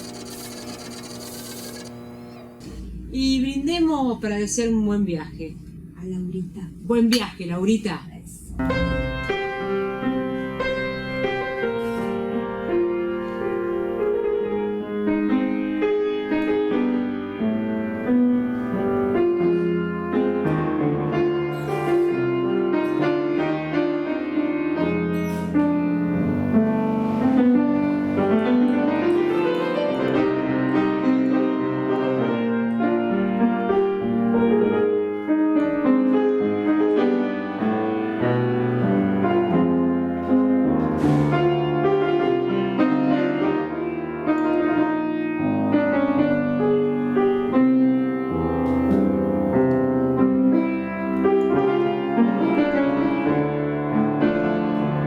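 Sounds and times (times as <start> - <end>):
piano music: 8.6 - 55.0.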